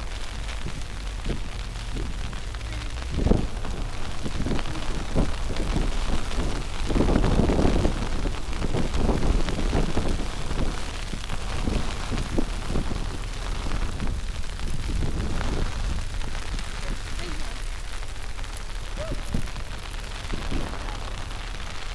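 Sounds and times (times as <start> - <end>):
crackling and crunching: 0.0 - 21.9
wind buffeting microphone: 0.0 - 21.9.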